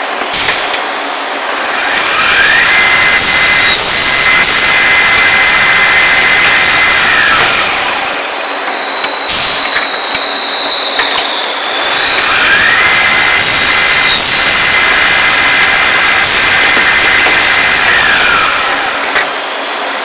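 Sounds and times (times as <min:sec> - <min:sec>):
lathe running: 0:00.0 - 0:20.0
machine whine: 0:00.0 - 0:20.0.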